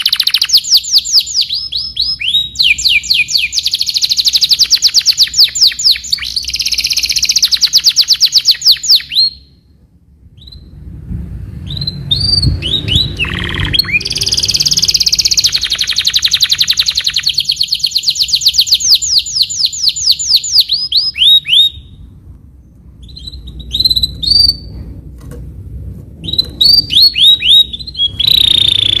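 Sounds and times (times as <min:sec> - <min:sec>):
canary singing: 0:00.0 - 0:09.6, 0:10.3 - 0:10.8, 0:11.6 - 0:22.1, 0:22.8 - 0:24.7, 0:26.2 - 0:29.0.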